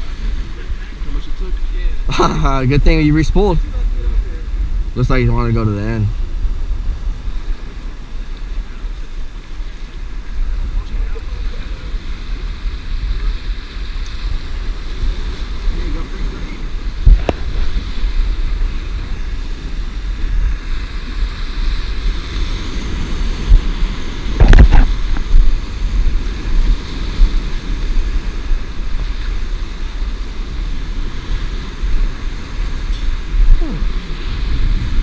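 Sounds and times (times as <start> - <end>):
surf washing against rocks: 0.0 - 35.0
wind buffeting microphone: 0.0 - 35.0.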